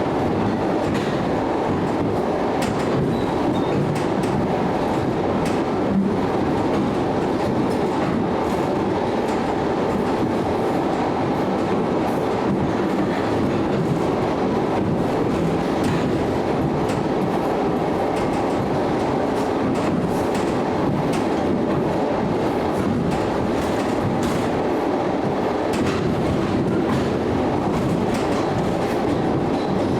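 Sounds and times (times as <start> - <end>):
train wheels rumbling on rail: 0.0 - 29.9
clicks over rail joints: 0.4 - 14.2, 14.8 - 29.8.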